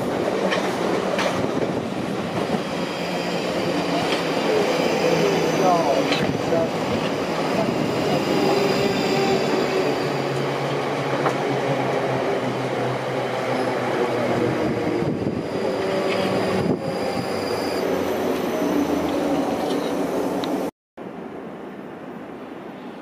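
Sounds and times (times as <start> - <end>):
train wheels rumbling on rail: 0.0 - 20.7.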